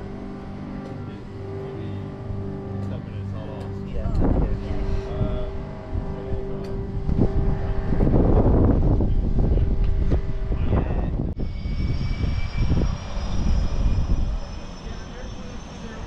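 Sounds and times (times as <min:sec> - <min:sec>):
helicopter engines and rotors: 0:00.0 - 0:16.0
high turbine whine: 0:00.0 - 0:16.0.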